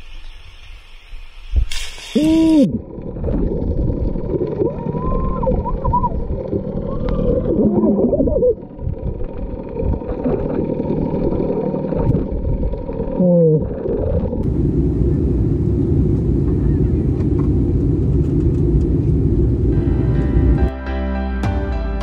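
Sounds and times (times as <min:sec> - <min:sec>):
muffled underwater rumble: 0:02.2 - 0:20.7.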